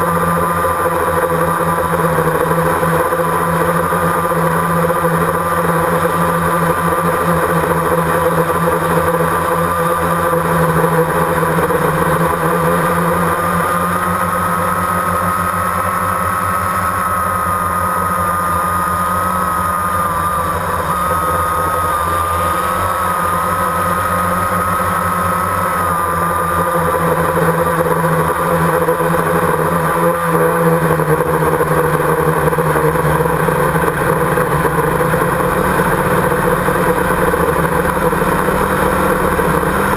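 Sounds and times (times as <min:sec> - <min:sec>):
drone propellers whining: 0:00.0 - 0:39.9
low motor hum: 0:00.0 - 0:39.9.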